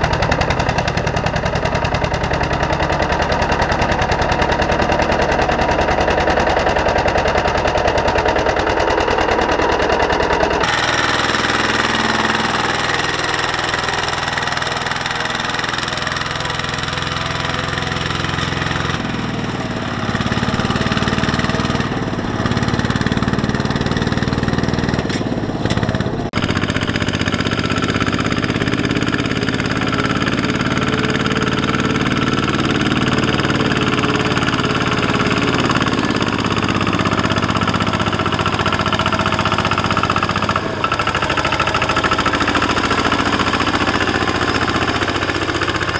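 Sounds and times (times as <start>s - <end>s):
diesel tractor engines under load: 0.0s - 45.9s.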